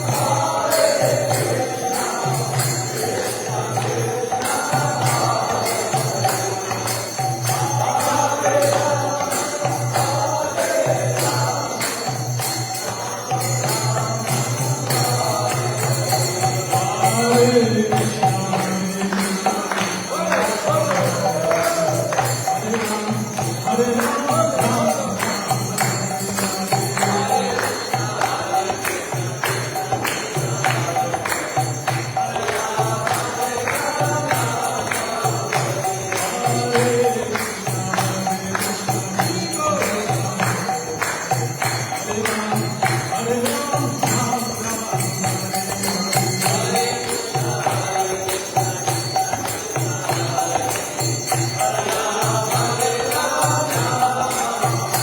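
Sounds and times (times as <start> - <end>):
jingling metal percussion: 0.0 - 55.0
voices chanting: 0.0 - 55.0.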